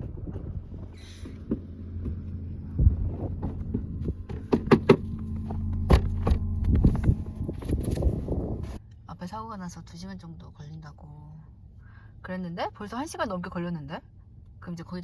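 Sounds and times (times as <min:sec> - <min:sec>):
low hum inside car: 0:00.0 - 0:15.0.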